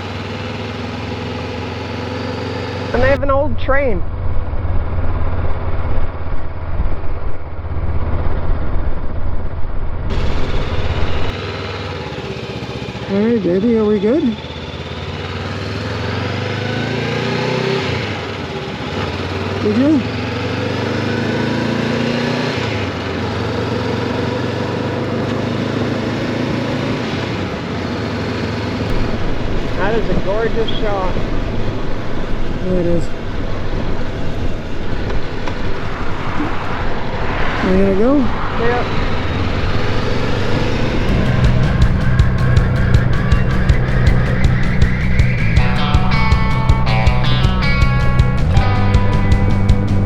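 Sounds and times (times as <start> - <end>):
motorcycle engine rumbling: 0.0 - 20.5, 25.8 - 50.0.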